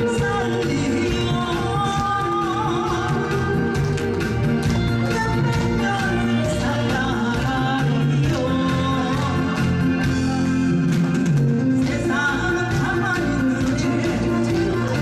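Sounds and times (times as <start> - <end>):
woman singing into a microphone: 0.0 - 10.3, 11.8 - 15.0.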